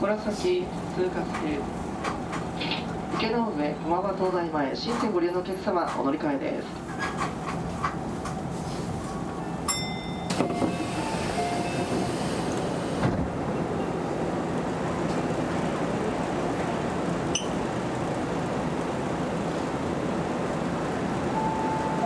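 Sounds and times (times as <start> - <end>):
train wheels on rails: 0.3 - 3.5, 6.8 - 22.0.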